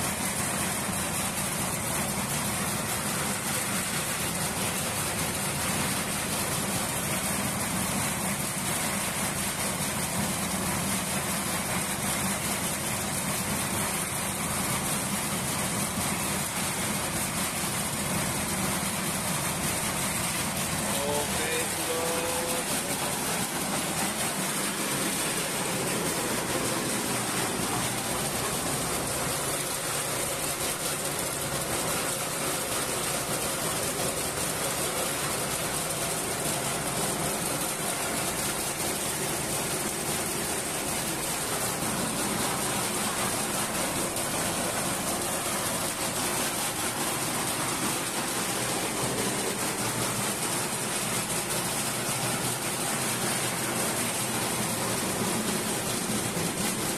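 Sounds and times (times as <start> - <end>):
thresher engine running: 0.0 - 56.9.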